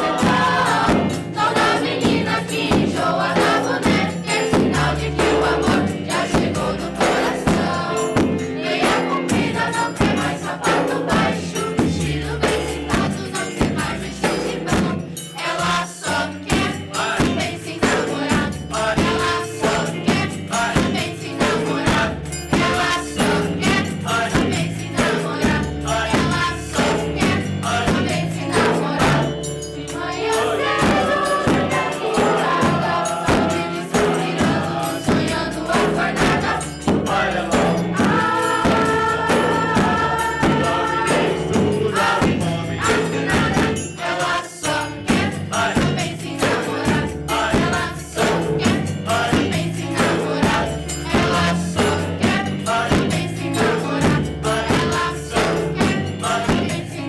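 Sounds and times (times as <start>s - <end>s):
hand percussion with jingles: 0.0s - 57.0s
voices singing together: 0.0s - 57.0s.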